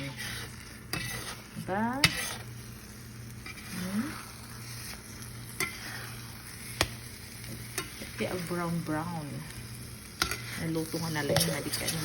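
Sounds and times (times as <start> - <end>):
omelette sizzling in a pan: 0.0 - 12.0.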